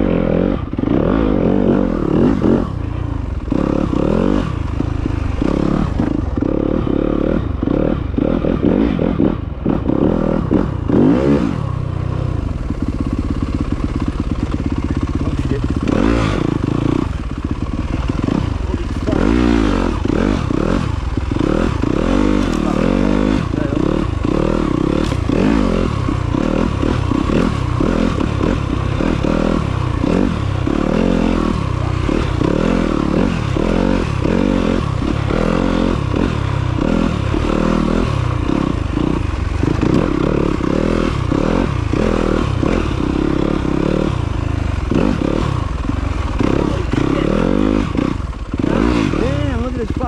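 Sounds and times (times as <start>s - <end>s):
motorcycle engine on rough trail: 0.0s - 50.0s.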